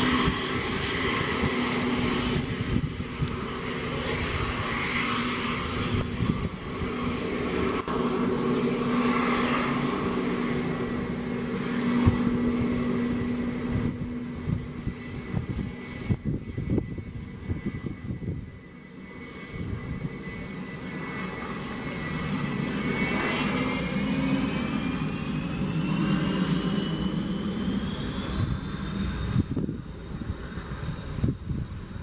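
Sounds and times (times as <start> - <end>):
jet engines running: 0.0 - 32.0
rising engine whine: 0.0 - 32.0.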